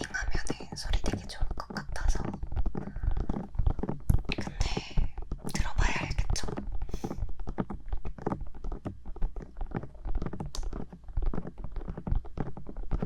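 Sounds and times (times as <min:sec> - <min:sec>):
fingertips tapping on microphone: 0:00.0 - 0:13.0.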